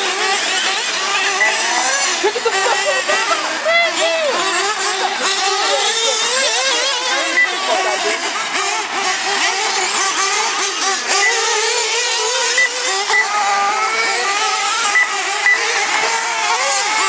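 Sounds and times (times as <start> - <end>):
small engines whining and revving: 0.0 - 17.0.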